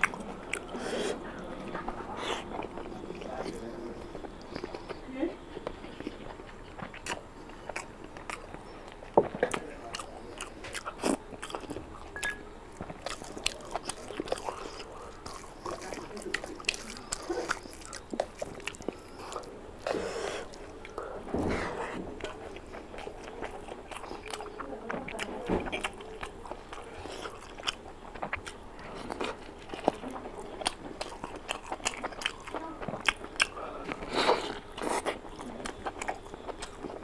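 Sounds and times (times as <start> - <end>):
wet chewing and lip-smacking: 0.0 - 37.0.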